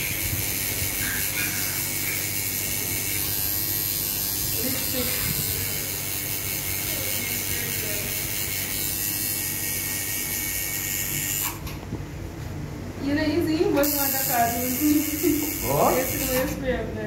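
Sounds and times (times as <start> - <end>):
tattoo machine buzzing: 0.0 - 11.8, 13.7 - 16.7.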